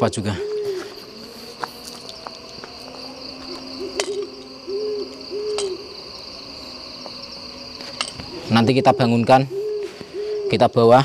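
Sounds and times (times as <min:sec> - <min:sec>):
high-pitched insect drone: 0:00.0 - 0:11.0
owl hooting: 0:00.0 - 0:11.0.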